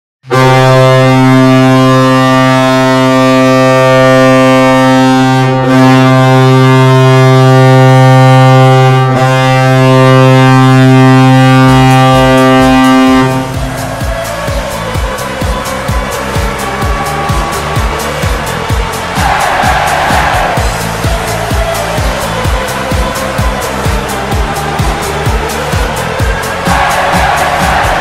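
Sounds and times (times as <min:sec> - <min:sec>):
arena goal horn blasting: 0:00.2 - 0:28.0
music with a steady beat: 0:00.3 - 0:28.0.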